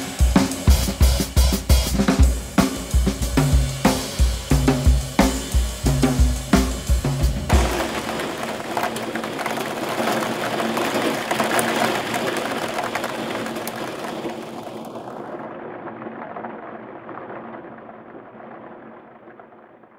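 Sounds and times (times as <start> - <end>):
rain-like hiss: 0.0 - 19.9.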